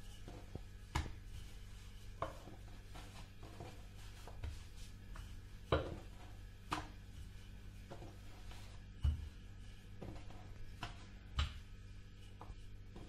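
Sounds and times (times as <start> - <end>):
rolling pin rolling dough: 0.0 - 13.0.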